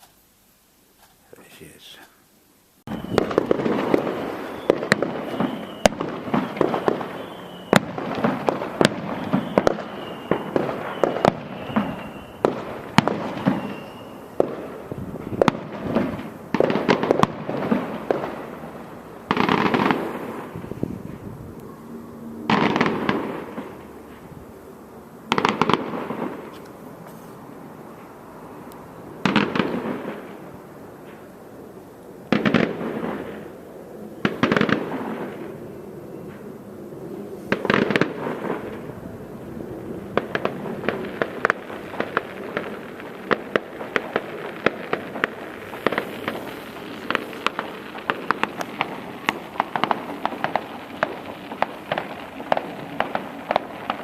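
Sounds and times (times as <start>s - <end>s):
crackling firework pops: 1.0s - 1.2s, 2.9s - 21.7s, 22.5s - 24.5s, 25.3s - 31.4s, 32.3s - 33.6s, 34.2s - 35.6s, 37.5s - 39.0s, 39.9s - 54.0s
fireworks bangs rumbling: 2.9s - 31.5s, 32.2s - 54.0s.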